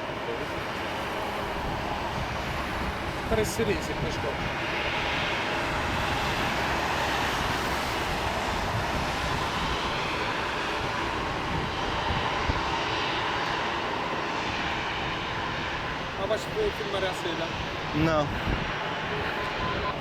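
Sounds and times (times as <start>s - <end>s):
jet airliner engines: 0.0s - 20.0s.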